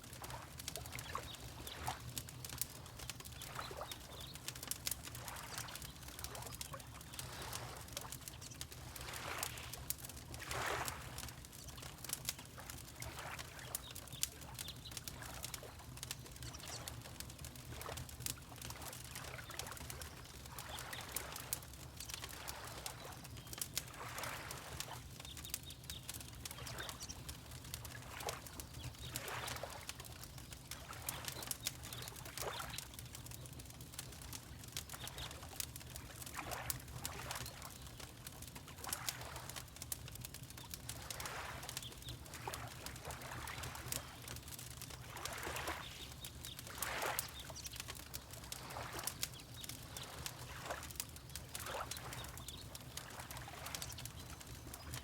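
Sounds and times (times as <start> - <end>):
wood fire crackling: 0.0 - 55.0
water lapping: 0.1 - 39.9, 40.9 - 55.0.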